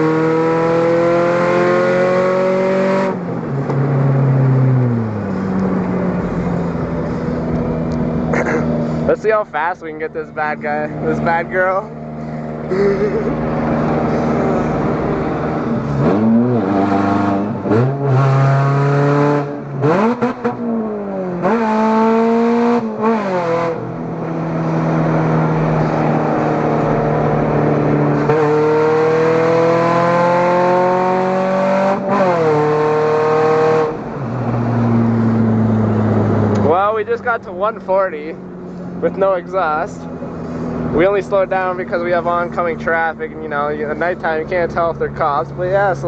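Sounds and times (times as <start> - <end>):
car engine accelerating hard: 0.0 - 46.0.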